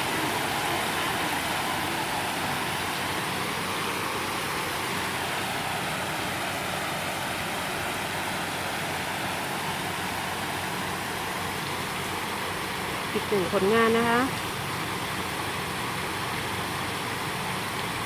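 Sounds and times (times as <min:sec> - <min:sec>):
waterfall splashing: 0:00.0 - 0:18.0.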